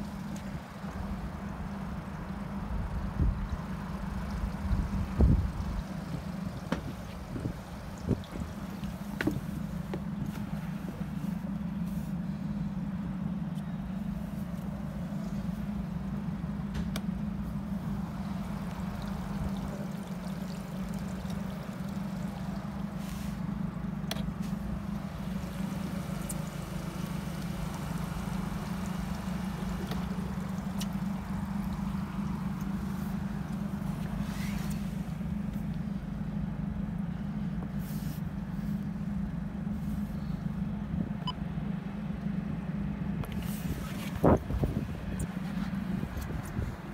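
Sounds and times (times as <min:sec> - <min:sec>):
outboard engines idling: 0:00.0 - 0:46.9.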